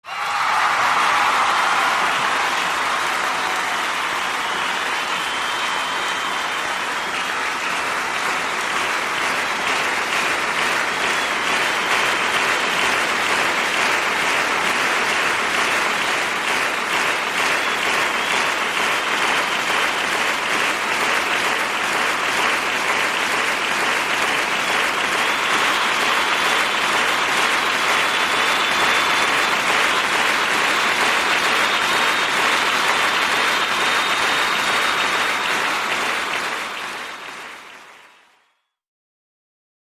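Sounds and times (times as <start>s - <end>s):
crowd applauding and cheering: 0.0s - 38.8s.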